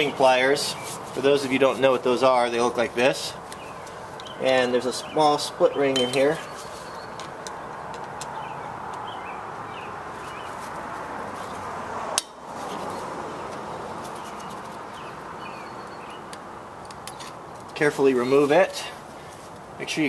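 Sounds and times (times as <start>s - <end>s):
birds chirping: 0.0s - 11.8s, 12.8s - 20.0s
steady background hiss: 0.0s - 20.0s.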